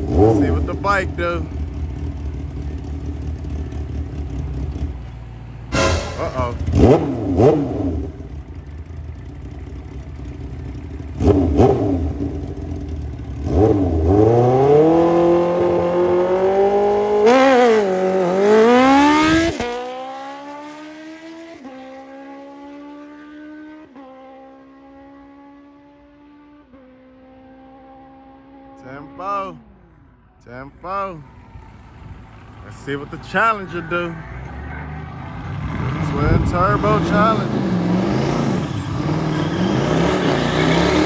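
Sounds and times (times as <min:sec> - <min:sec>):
motorcycle engine revving: 0:00.0 - 0:29.9, 0:31.4 - 0:41.0.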